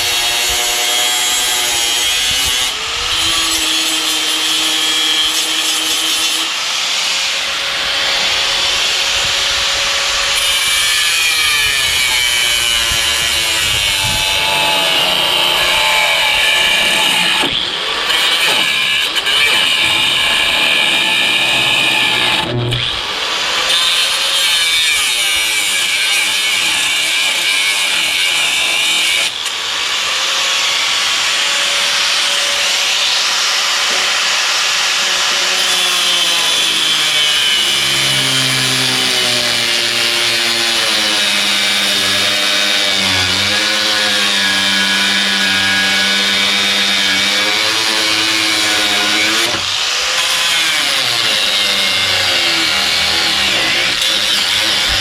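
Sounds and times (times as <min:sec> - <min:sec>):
power grinder cutting metal: 0:00.0 - 0:55.0.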